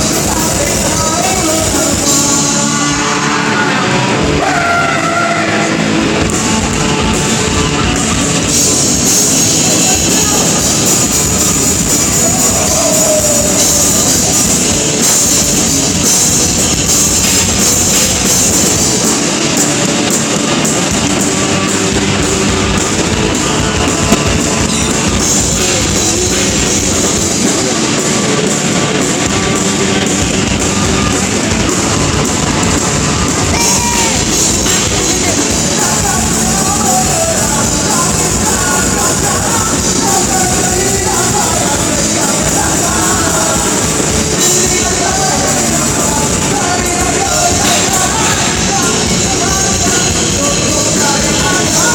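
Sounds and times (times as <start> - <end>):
person singing: 0.0 - 19.6, 21.4 - 28.1, 29.2 - 51.9
distorted electric guitar: 0.0 - 51.9
drum kit: 0.0 - 51.9.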